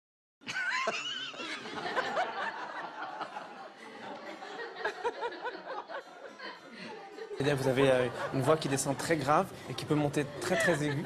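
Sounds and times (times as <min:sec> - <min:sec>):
people laughing: 0:00.5 - 0:11.0.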